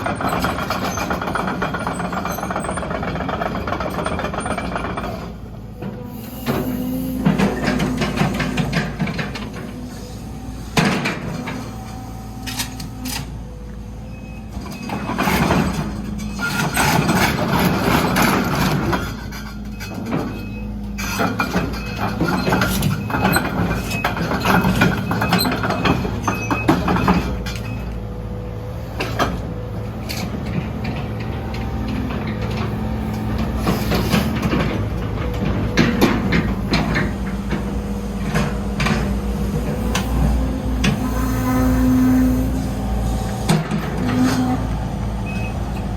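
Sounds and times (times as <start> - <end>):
metal clanks and knocks: 0.0 - 10.0, 10.6 - 11.9, 14.6 - 27.8, 29.0 - 41.3
excavator engine humming: 0.0 - 45.9.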